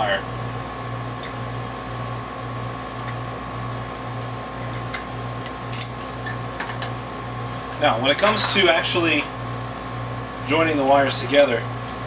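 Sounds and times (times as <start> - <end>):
throbbing mechanical hum: 0.0 - 12.0.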